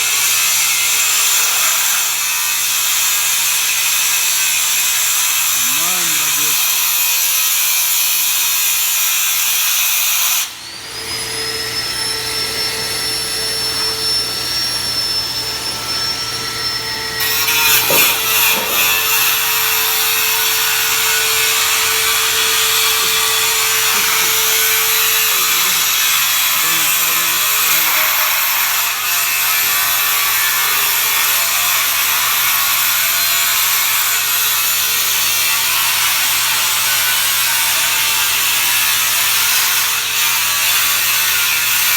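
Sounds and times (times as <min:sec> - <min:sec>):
harsh hissing of metalworking tools: 0:00.0 - 0:41.9.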